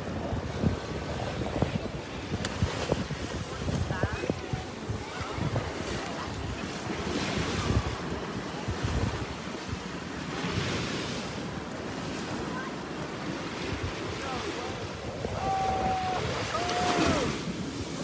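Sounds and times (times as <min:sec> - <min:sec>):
surf washing up beach: 0:00.0 - 0:18.0
wind rumbling on microphone: 0:00.0 - 0:18.0.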